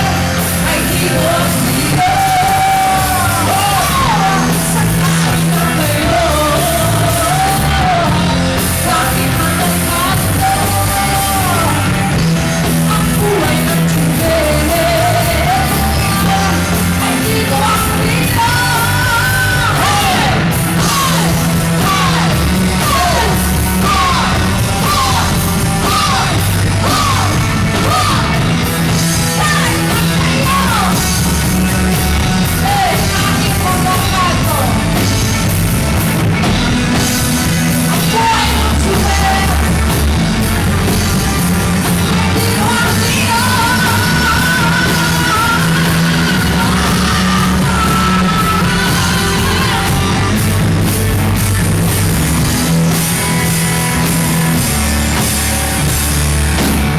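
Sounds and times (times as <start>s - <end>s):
live rock band: 0.0s - 56.9s
vocals: 0.0s - 56.9s.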